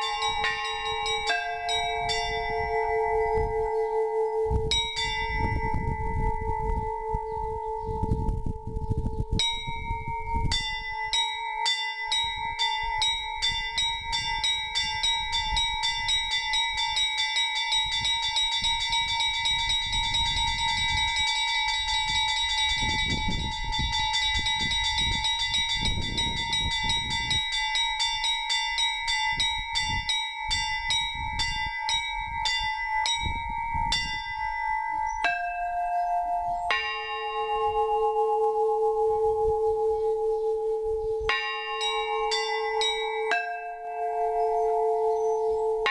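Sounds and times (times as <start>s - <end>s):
hum of large bells: 0.0s - 45.9s
small high bells chiming rapidly: 0.0s - 45.9s.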